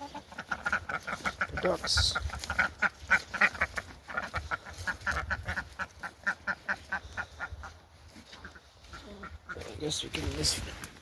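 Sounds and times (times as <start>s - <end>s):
ducks quacking: 0.0s - 10.9s.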